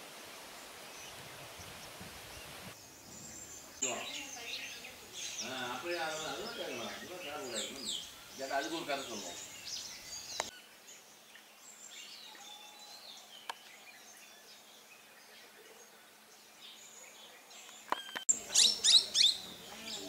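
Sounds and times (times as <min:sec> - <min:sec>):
birds chirping: 0:00.6 - 0:20.0.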